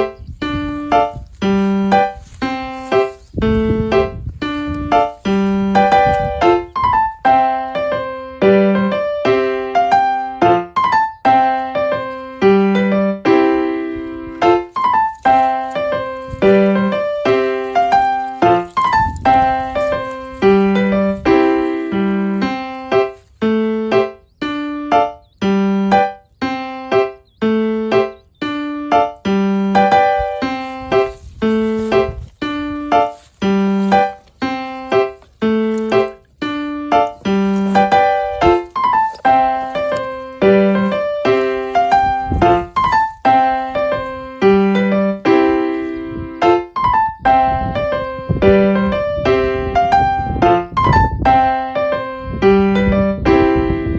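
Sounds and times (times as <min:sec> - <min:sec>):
light bouncy piano tune: 0:00.0 - 0:53.9.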